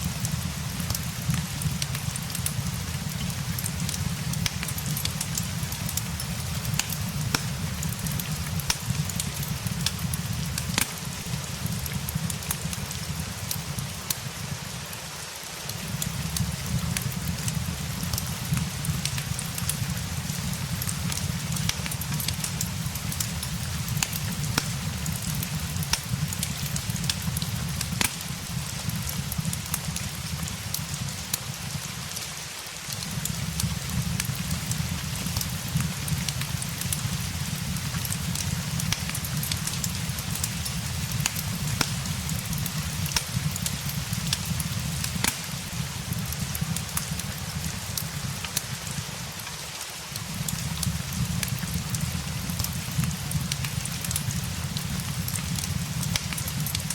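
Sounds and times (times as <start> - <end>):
crackling fireplace: 0.0 - 56.9
steady rain: 0.0 - 56.9.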